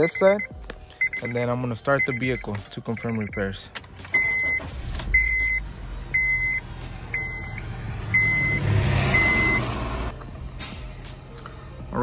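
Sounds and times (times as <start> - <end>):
car warning chime beeping: 0.0 - 9.7.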